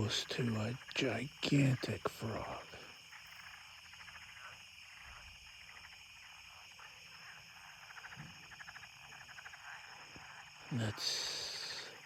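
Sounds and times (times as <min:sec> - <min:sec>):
insects calling: 0:00.0 - 0:12.0.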